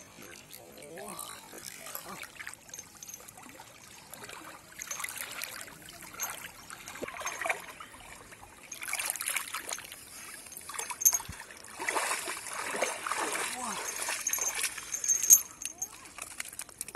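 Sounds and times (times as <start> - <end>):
water sloshing as person wades: 0.0 - 16.9.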